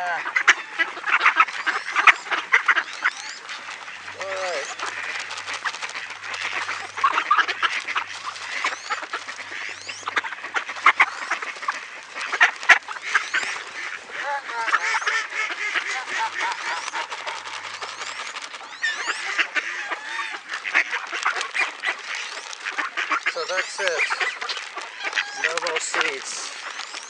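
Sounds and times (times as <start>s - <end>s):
ducks calling: 0.0s - 27.0s.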